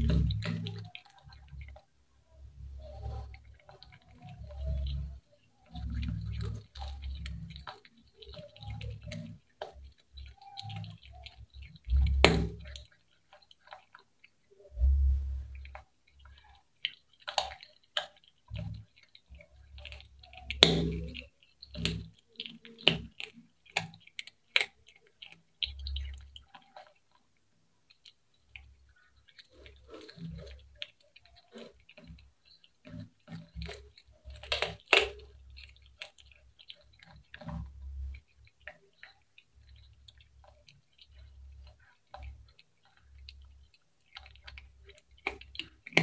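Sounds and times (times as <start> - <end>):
cat chewing crunchy fish: 0.0 - 46.0.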